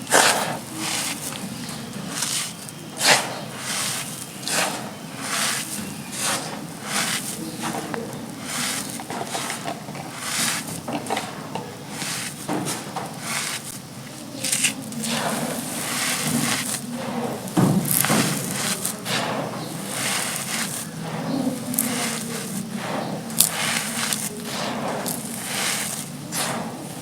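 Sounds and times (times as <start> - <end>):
cement chunks crumbling: 0.0 - 27.0.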